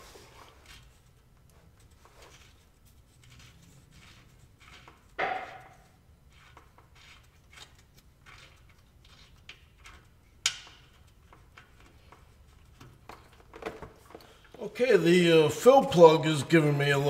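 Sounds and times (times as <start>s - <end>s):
metallic clicks and scrapes: 0.2s - 14.6s.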